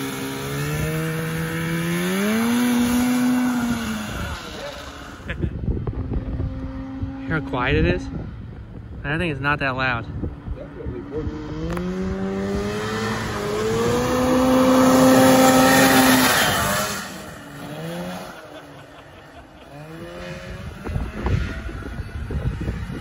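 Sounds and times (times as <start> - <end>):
buggy engine revving: 0.0 - 8.8, 10.4 - 23.0.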